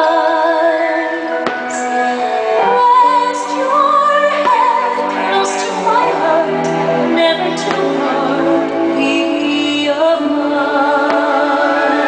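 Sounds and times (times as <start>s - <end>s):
orchestral accompaniment: 0.0s - 12.0s
woman singing: 0.0s - 12.0s.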